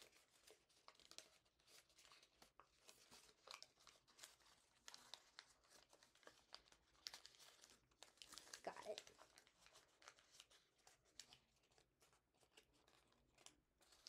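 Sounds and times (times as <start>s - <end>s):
paper crinkling being folded: 0.0s - 14.0s.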